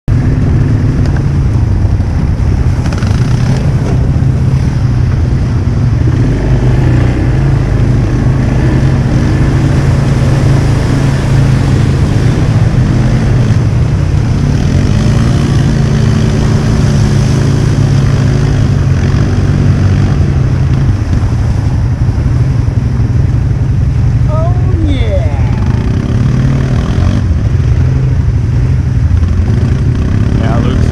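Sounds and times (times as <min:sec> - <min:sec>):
atv engine running: 0:00.1 - 0:30.9.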